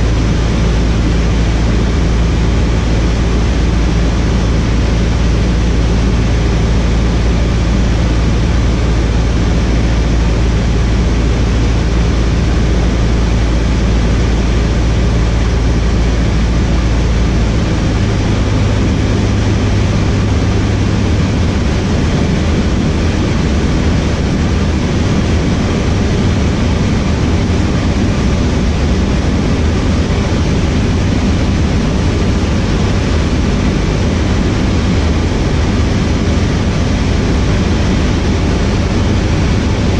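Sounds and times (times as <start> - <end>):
propeller aircraft engine in flight: 0.0 - 39.9
steady rushing noise: 0.0 - 39.9.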